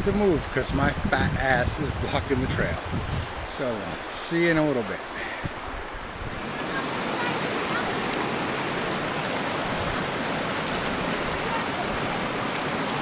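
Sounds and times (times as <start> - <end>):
brook babbling over rocks: 2.0 - 13.0.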